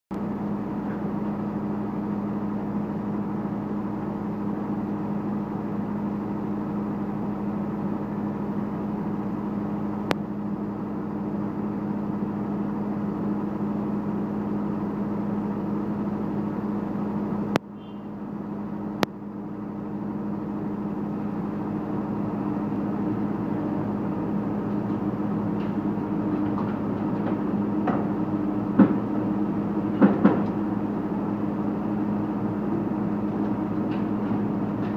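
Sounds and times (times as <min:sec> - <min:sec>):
excavator diesel engines droning: 0:00.1 - 0:34.9.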